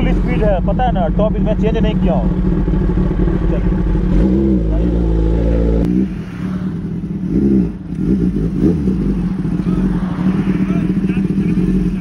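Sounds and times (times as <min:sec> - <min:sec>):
motorcycle engine idling: 0:00.0 - 0:05.9, 0:06.8 - 0:12.0.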